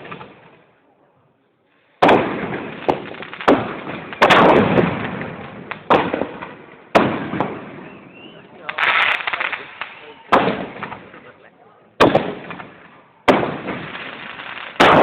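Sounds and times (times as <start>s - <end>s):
fireworks exploding: 0.0s - 0.7s, 2.0s - 15.0s.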